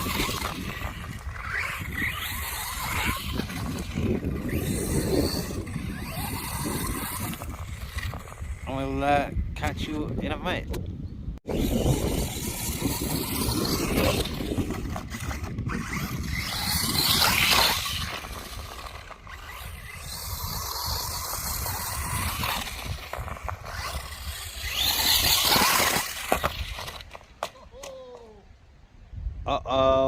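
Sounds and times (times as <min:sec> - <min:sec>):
wind buffeting microphone: 0:00.0 - 0:27.2
tyres scraping rough ground: 0:00.0 - 0:27.8.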